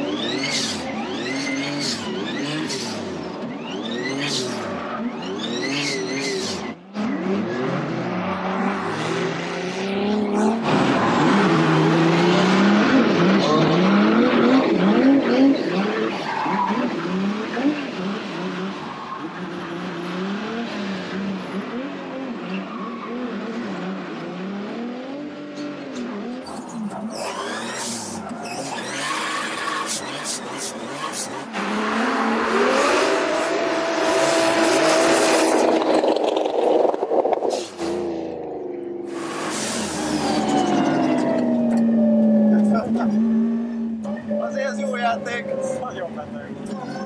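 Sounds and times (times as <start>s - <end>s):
tyres squealing and skidding: 0.0s - 12.0s, 12.6s - 23.9s, 25.5s - 36.1s, 39.1s - 47.0s
car engine revving: 0.0s - 47.0s.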